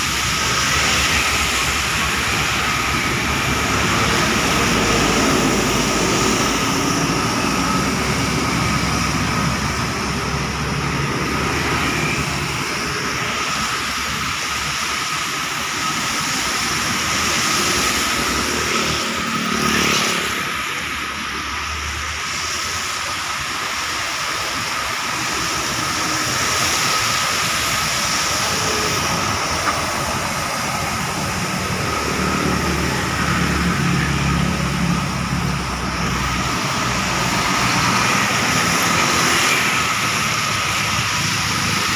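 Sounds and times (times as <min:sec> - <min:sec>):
traffic engines: 0:00.0 - 0:41.9
tyres hissing on wet asphalt: 0:00.0 - 0:41.9.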